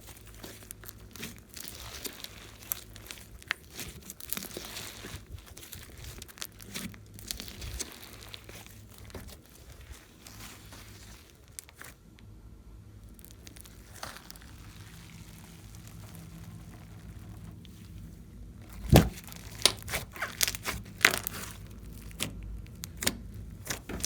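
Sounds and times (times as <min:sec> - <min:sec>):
slime crackling and popping: 0:00.0 - 0:12.0, 0:13.0 - 0:24.0.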